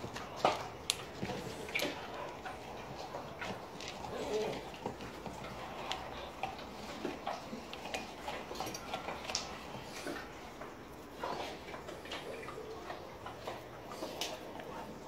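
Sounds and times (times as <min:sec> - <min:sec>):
dogs eating from steel bowls: 0:00.0 - 0:15.0
dogs' claws clicking on tiles: 0:00.0 - 0:15.0.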